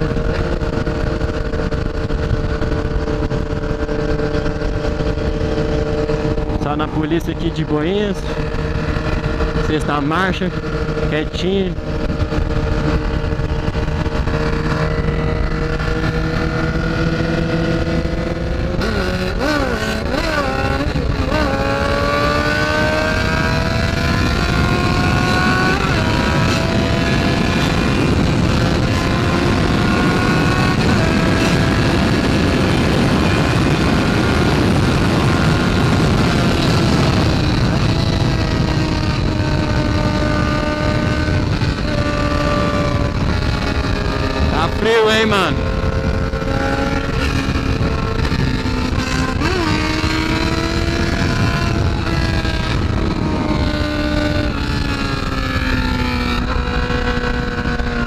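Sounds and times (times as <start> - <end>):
motorcycle engine accelerating: 0.0 - 58.0
wind rush: 0.0 - 58.0.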